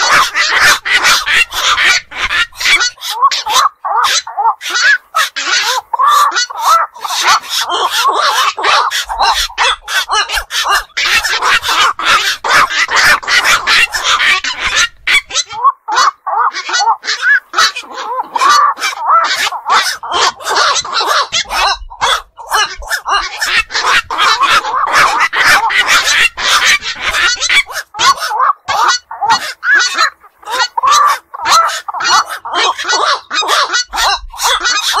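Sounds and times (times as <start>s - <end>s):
herons calling harshly: 0.0s - 35.0s.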